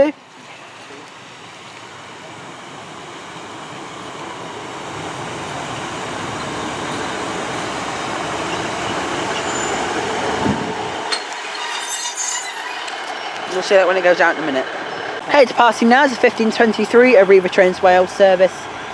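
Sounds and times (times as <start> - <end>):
diesel train rumble and wheel noise: 0.0 - 18.9.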